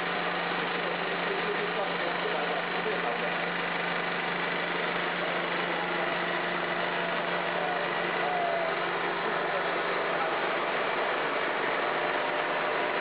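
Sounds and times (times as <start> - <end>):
machinery hum: 0.0 - 13.0
oil pumps running: 0.0 - 13.0.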